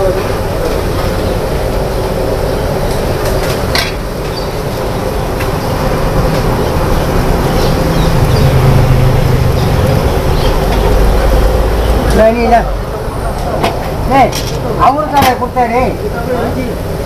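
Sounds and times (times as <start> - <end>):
burners and machinery rumbling: 0.0 - 17.0
steady hum: 0.0 - 17.0.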